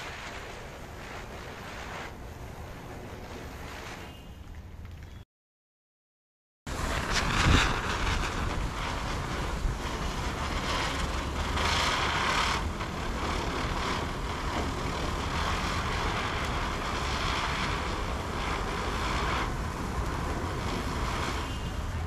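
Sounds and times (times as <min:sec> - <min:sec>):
ground spinner firework hissing: 0:00.0 - 0:04.4, 0:06.7 - 0:22.0.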